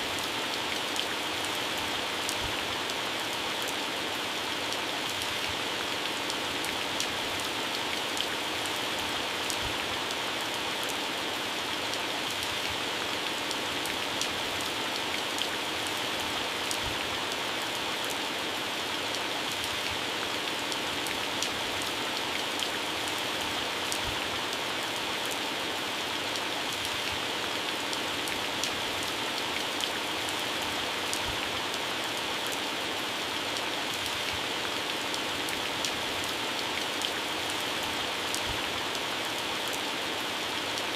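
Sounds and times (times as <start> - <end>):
heavy rain on leaves and grass: 0.0 - 40.9.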